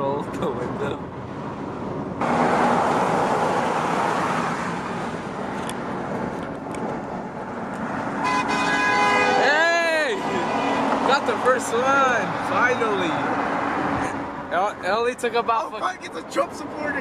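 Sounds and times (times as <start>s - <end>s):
traffic and road noise: 0.0s - 17.0s.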